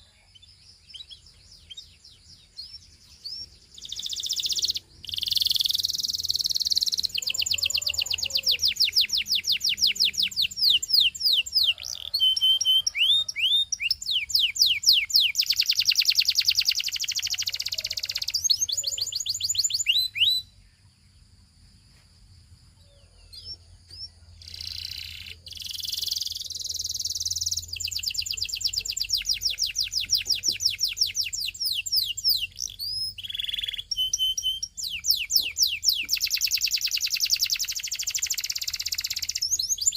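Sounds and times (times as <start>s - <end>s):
canary singing trills: 0.0s - 21.0s, 22.8s - 39.9s.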